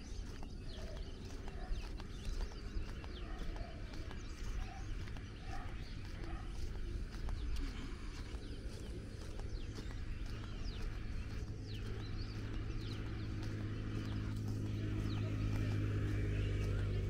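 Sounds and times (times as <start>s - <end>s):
birds calling: 0.0s - 17.0s
footsteps on paved path: 0.0s - 17.0s
low steady rumble: 0.0s - 17.0s.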